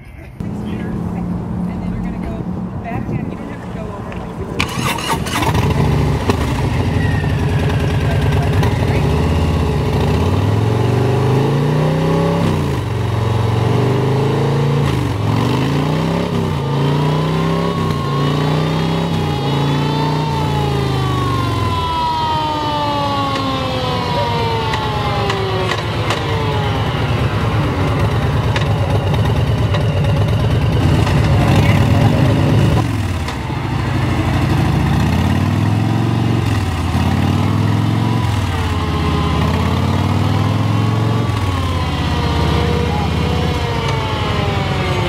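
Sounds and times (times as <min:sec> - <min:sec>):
high whine of downshifting: 0:00.4 - 0:45.0
motorcycle engine revving through gears: 0:00.4 - 0:45.0.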